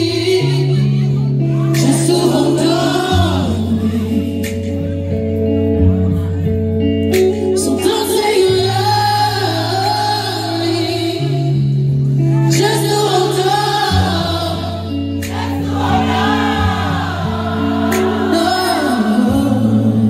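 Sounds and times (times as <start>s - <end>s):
man singing slow ballad: 0.0s - 20.0s.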